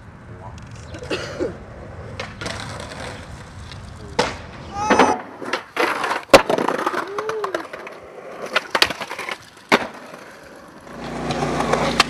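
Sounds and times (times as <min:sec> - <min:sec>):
skateboard wheels rolling on concrete: 0:00.0 - 0:12.0
skateboard clacks: 0:01.8 - 0:12.0.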